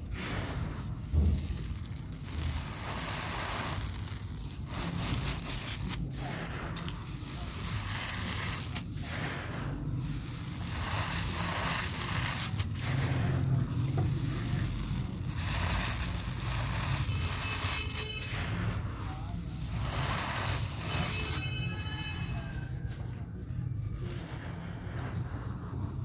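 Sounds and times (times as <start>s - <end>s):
cement crumbling and crackling: 0.0s - 23.3s.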